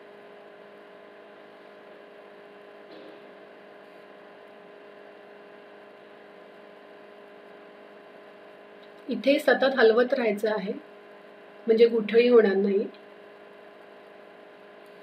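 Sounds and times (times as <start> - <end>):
induction cooktop humming: 0.0 - 15.0.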